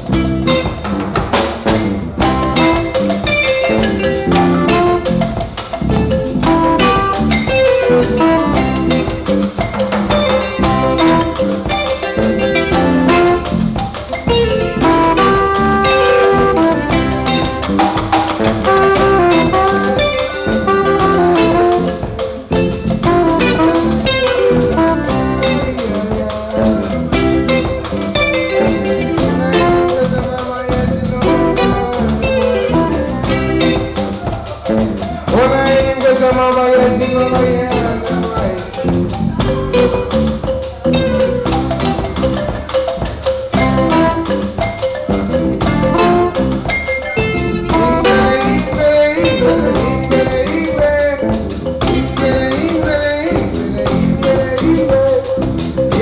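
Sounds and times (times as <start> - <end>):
drum kit: 0.0 - 56.0
electric bass guitar: 0.0 - 56.0
balafon played with mallets: 2.2 - 56.0.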